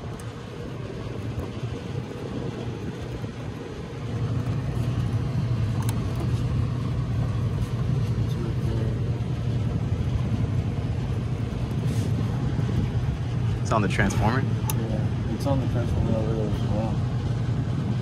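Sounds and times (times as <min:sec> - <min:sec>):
low mechanical rumble and hum: 0:00.0 - 0:18.0.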